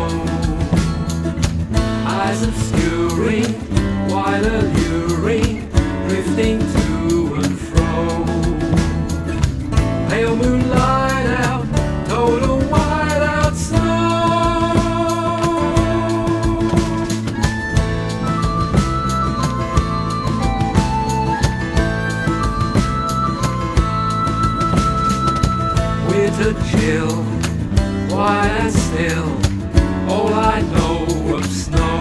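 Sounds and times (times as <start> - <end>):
pop song with guitar and beat: 0.0 - 32.0.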